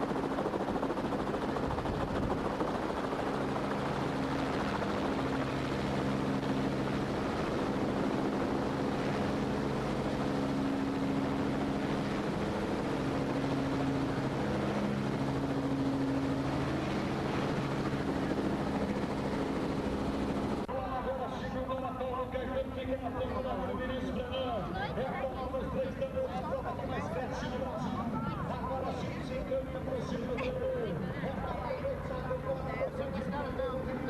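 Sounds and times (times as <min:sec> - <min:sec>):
helicopter running: 0:00.0 - 0:34.0.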